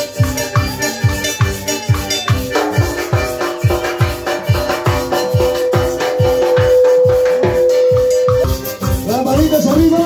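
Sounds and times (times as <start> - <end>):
booming bass drum beat: 0.0 - 10.0
dance music melody: 0.0 - 10.0.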